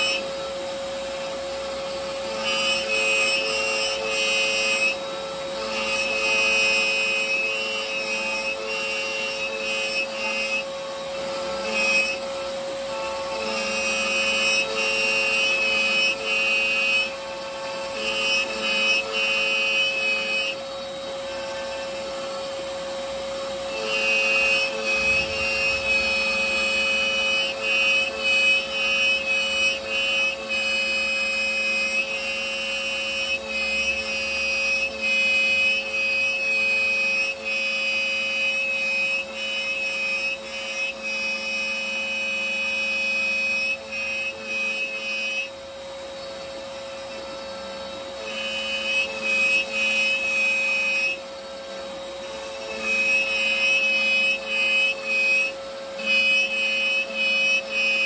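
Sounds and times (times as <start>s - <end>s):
router cutting wood: 0.0s - 58.0s.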